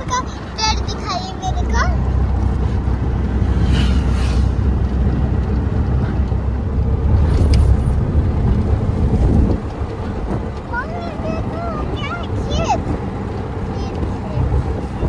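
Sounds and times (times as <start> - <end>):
road noise: 0.0 - 15.0
van engine drone: 0.0 - 15.0.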